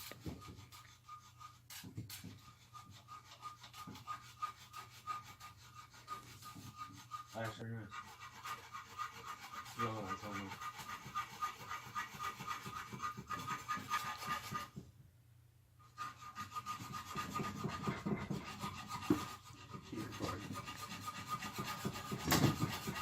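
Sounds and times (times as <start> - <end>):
metal scraping and rubbing: 0.0 - 14.8, 15.9 - 23.0.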